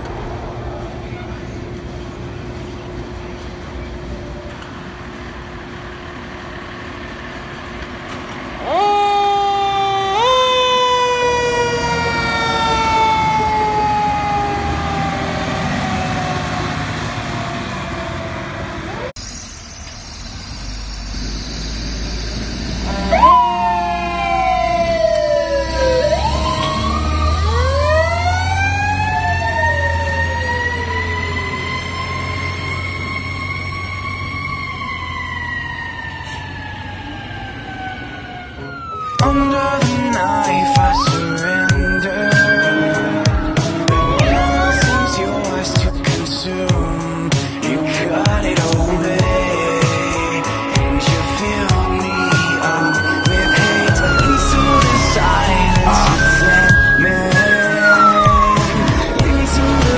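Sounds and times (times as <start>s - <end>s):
fire truck siren: 0.0s - 59.9s
truck engine rumble: 0.0s - 59.9s.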